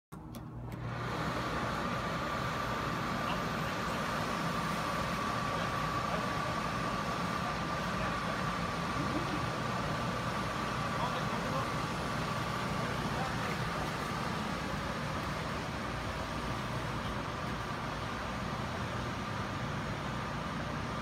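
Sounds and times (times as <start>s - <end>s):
electric blowers whining: 0.2s - 21.0s.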